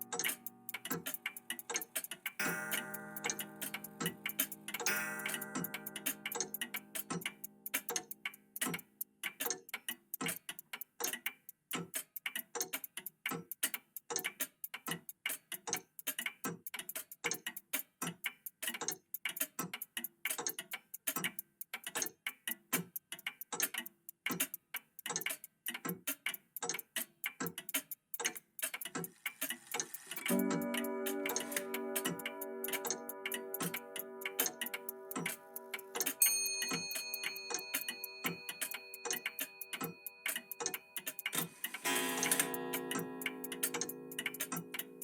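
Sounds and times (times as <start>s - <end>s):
mechanical clocks ticking: 0.0s - 45.0s.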